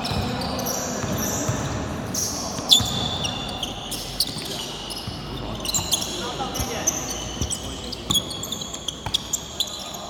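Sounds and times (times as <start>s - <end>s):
sneakers squeaking on court floor: 0.0s - 10.0s.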